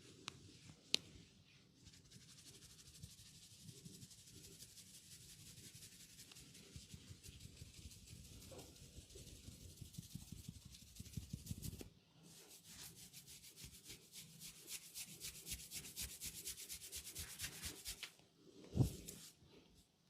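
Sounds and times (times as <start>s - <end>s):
hands rubbing scalp and hair: 0.1s - 18.2s, 18.8s - 19.4s.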